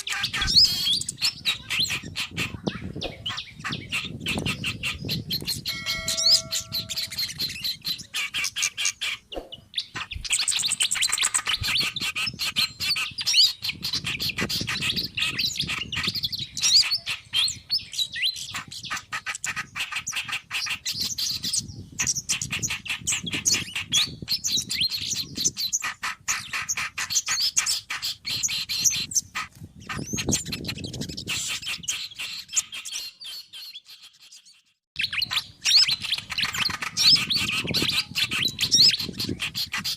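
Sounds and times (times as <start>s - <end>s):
songbirds chirping rapidly: 0.0s - 39.9s.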